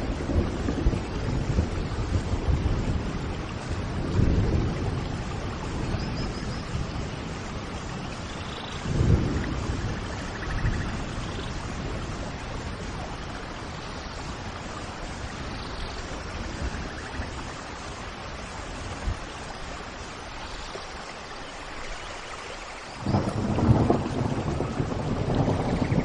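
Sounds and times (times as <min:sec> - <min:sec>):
thunder rumbling: 0:00.0 - 0:19.6, 0:23.0 - 0:26.0
steady rain falling: 0:00.0 - 0:26.0.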